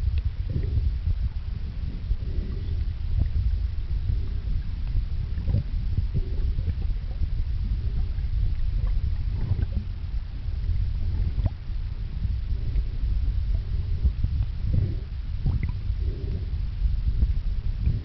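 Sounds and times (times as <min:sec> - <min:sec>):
underwater rumble and gurgling: 0:00.0 - 0:18.0.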